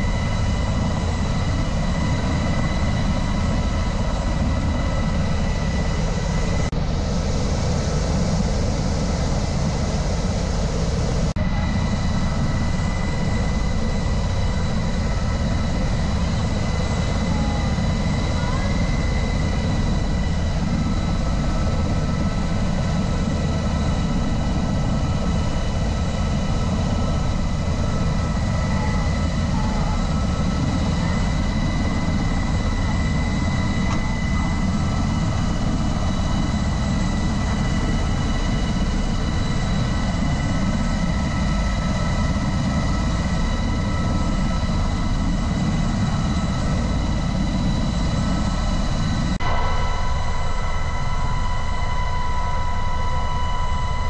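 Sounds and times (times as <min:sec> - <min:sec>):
helicopter turbines and rotor drone: 0:00.0 - 0:54.0
high-pitched whine: 0:00.0 - 0:54.0.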